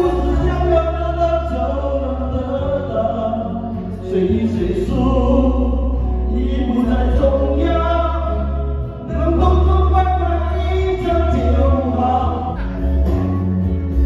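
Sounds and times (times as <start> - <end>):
backing music with steady bass: 0.0 - 14.0
person singing pop ballad: 0.0 - 14.0.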